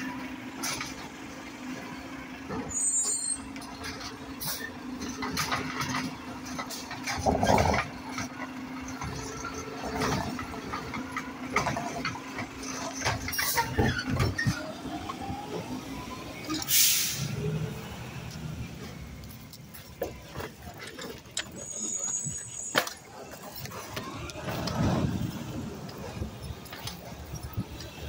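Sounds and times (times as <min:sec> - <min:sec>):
garbage truck humming: 0:00.0 - 0:28.0.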